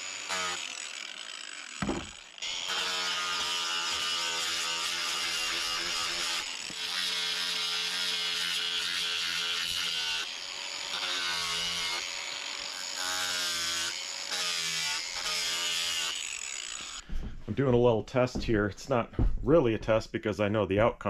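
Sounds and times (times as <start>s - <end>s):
angle grinder sanding wood: 0.0s - 17.0s.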